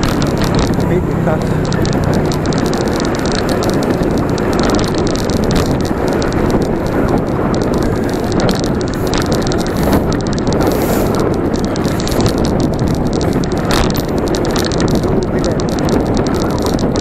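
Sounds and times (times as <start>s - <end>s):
bicycle tyre noise on road: 0.0s - 17.0s
wind on microphone: 0.0s - 17.0s.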